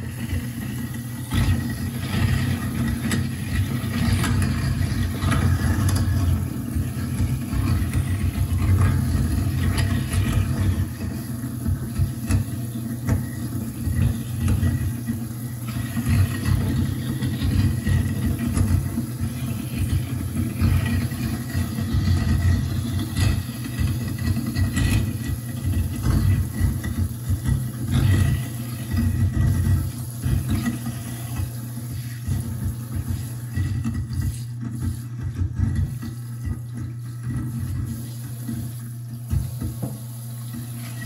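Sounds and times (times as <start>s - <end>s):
garbage disposal grinding food: 0.0s - 41.0s.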